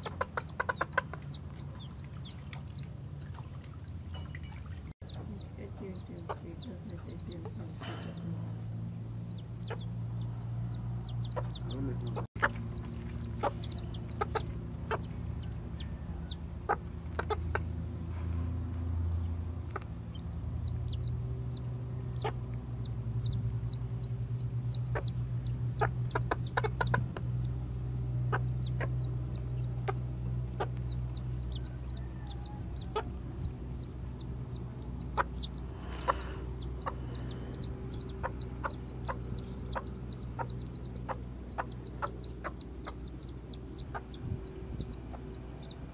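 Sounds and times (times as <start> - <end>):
chicks peeping: 0.0 - 45.9
steady low hum: 0.0 - 45.9.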